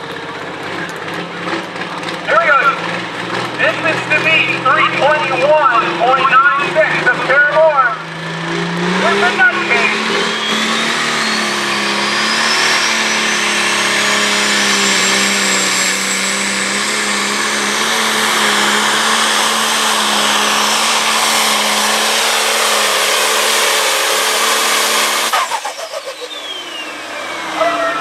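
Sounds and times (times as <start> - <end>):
diesel tractor engine at full throttle: 0.0 - 28.0
high turbocharger whine: 0.0 - 28.0.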